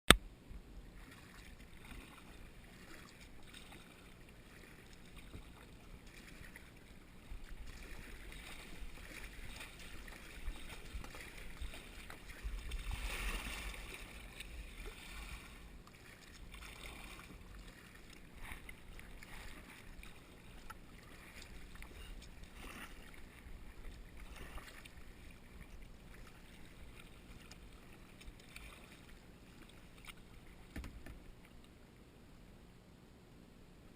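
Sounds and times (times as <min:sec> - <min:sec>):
kayak paddle strokes: 0:00.9 - 0:31.6
rush of water: 0:01.0 - 0:31.2.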